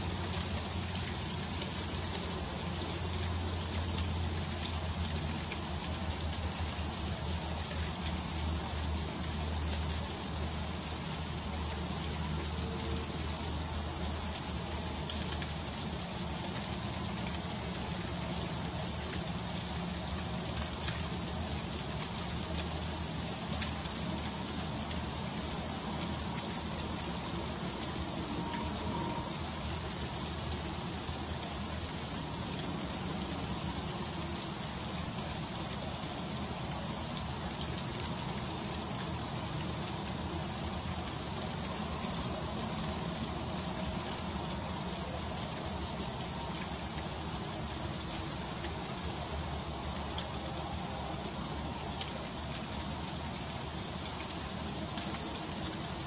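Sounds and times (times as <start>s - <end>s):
low steady hum: 0.0s - 53.5s
freezing rain pattering on ice: 0.0s - 56.0s.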